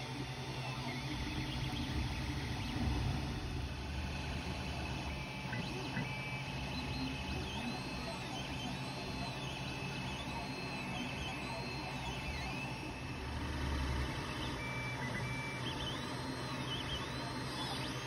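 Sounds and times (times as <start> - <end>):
cooling fans humming: 0.0 - 18.0
stepper motors whining in pitch sweeps: 0.1 - 18.0.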